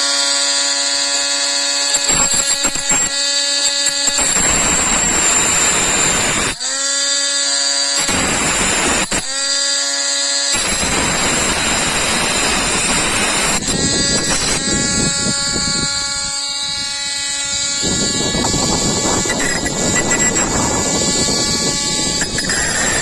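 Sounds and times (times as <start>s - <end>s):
disc grinding into screw: 0.0s - 23.0s
grinder motor whining: 0.0s - 23.0s.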